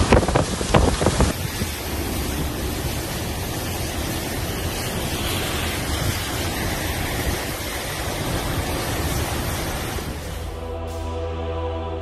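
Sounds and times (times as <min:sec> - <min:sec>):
wind buffeting on microphone: 0:00.0 - 0:10.3
strong wind rushing: 0:00.0 - 0:10.8.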